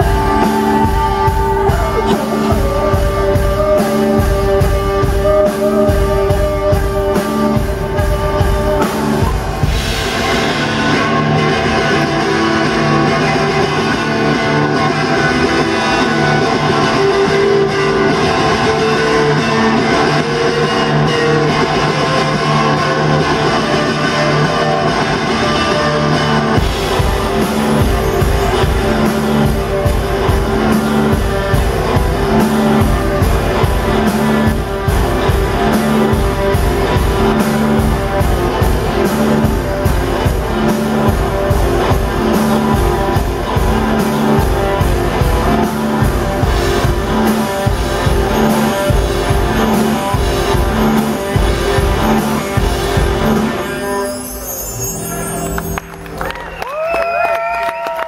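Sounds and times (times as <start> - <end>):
electric guitar: 0.0 - 58.0
rock band playing live: 0.0 - 58.0.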